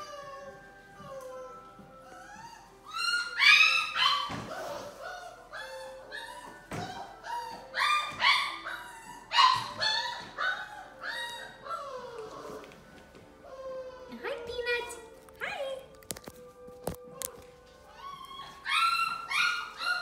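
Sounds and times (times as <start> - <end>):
puppies barking and yipping: 0.0 - 14.2, 16.9 - 20.0.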